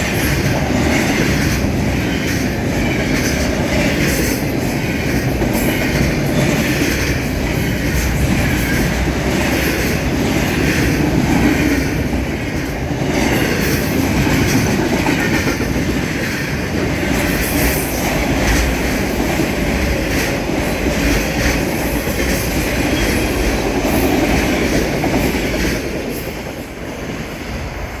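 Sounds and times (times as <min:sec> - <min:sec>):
train wheels clattering over rail joints: 0:00.0 - 0:26.8.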